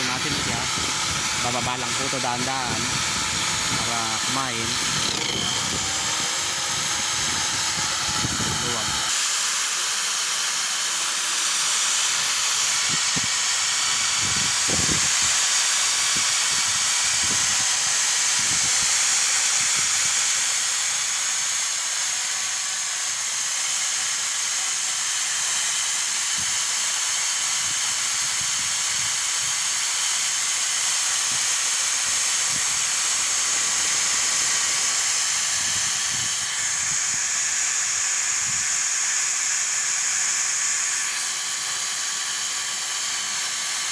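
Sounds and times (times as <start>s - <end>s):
electric drill whining: 0.0s - 43.9s.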